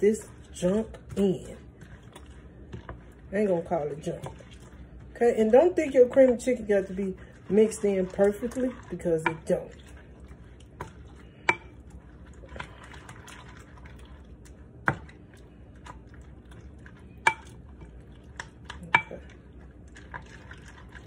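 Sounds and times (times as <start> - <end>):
fork stirring wet pasta: 0.0 - 21.0.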